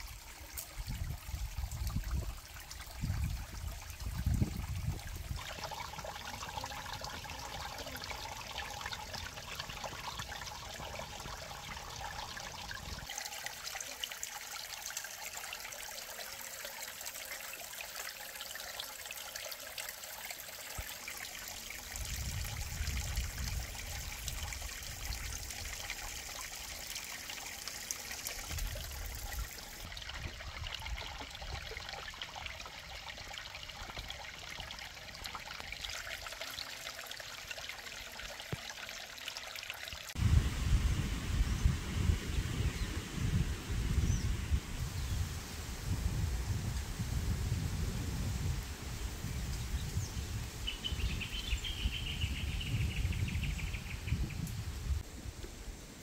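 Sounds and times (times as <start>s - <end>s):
water trickling: 0.0s - 45.3s.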